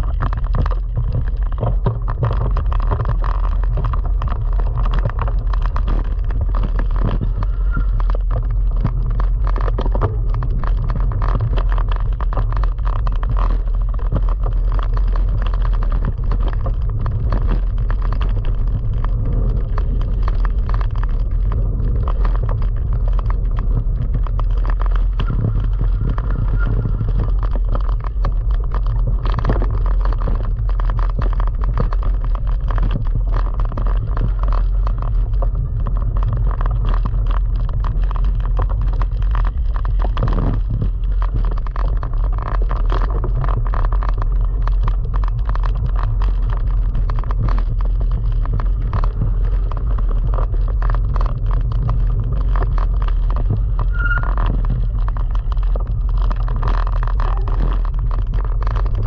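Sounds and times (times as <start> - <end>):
bike rattling and clicking: 0.0 - 59.0
bike tyres rumbling on dirt: 0.0 - 59.0.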